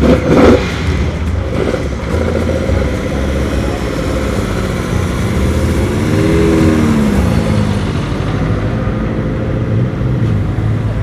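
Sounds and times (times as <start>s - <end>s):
cars driving by: 0.0s - 11.0s.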